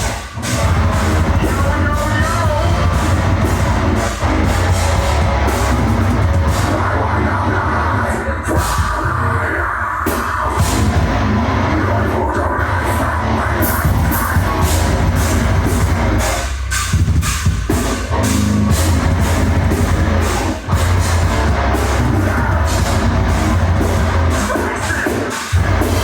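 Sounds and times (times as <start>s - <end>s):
distorted guitars and bass: 0.0s - 26.0s
drums: 0.0s - 26.0s.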